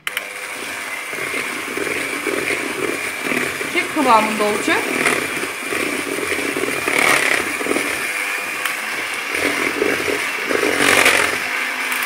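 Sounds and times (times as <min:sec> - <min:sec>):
electric hand mixer whisking batter: 0:00.0 - 0:12.0.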